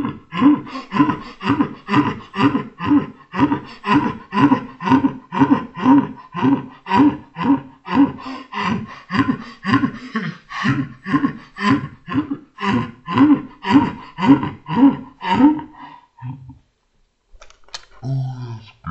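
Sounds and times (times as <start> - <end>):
slowed-down man's laughter: 0.0 - 16.7.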